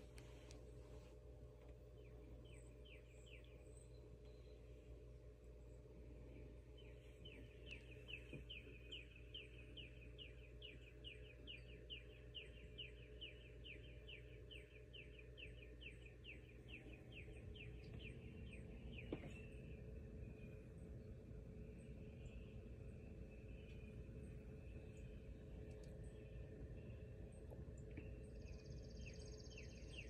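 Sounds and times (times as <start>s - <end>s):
steady low hum: 0.0s - 30.0s
bird chirping: 1.8s - 30.0s.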